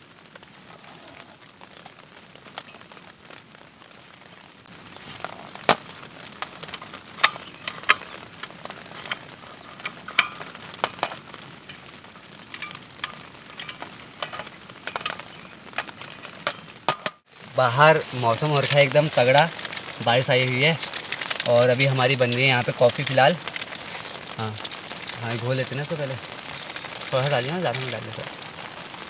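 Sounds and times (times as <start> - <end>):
rain hissing on tent: 0.0 - 29.0.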